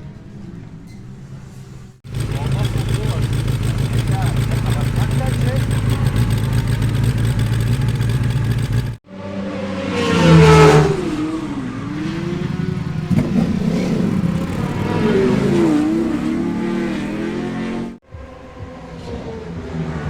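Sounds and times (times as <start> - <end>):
motorcycle engine revving: 2.0 - 18.0
racing motorcycle engine running: 2.0 - 19.9.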